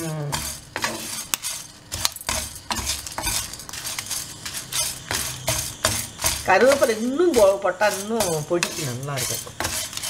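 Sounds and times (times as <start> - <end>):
grains rattling against pan: 0.0 - 10.0
spatula scraping a frying pan: 0.0 - 10.0.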